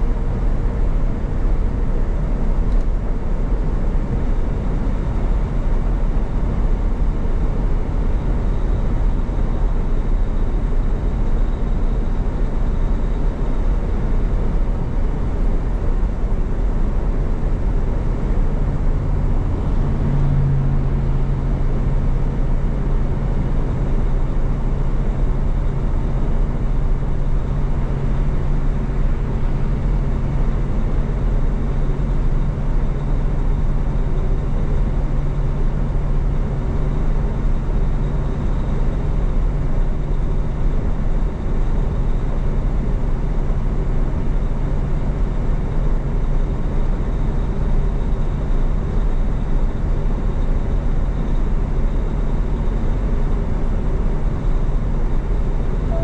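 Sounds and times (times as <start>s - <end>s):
diesel engine hum: 0.0s - 56.0s.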